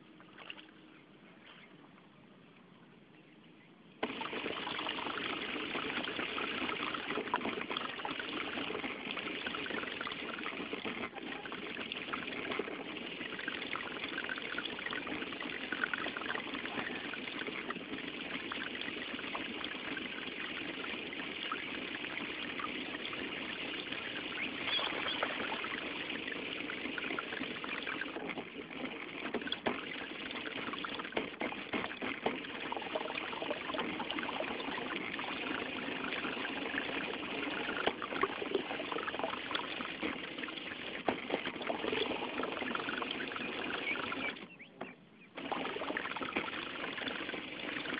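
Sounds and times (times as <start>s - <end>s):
water splashing against boat hull: 4.0s - 47.9s.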